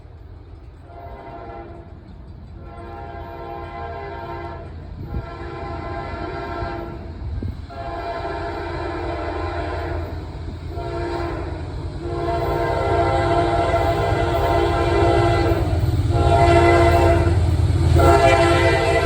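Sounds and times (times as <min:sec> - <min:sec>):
train rumbling: 0:00.0 - 0:19.0
locomotive horn blasts: 0:00.8 - 0:02.0, 0:02.6 - 0:19.0.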